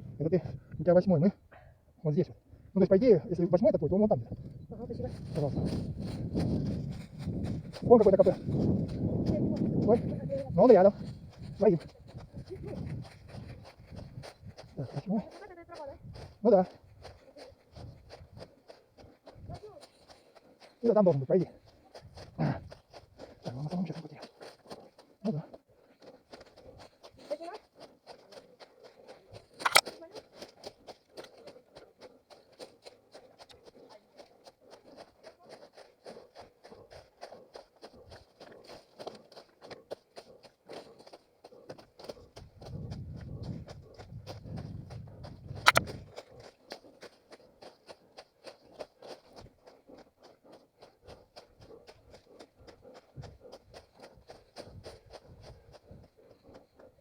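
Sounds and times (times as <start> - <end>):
footsteps on forest floor: 4.3 - 57.0.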